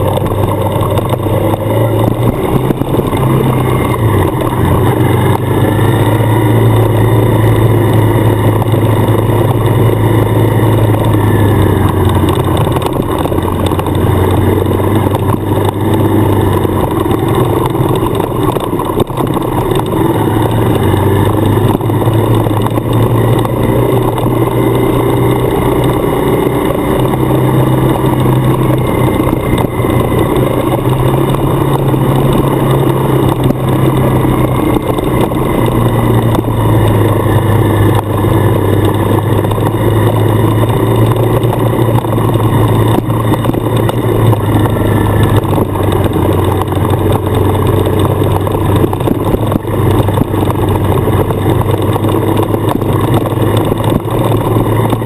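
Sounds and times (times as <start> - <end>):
motorcycle engine running: 0.0 - 55.0
tyres on gravel: 0.0 - 55.0
wind noise: 0.0 - 55.0.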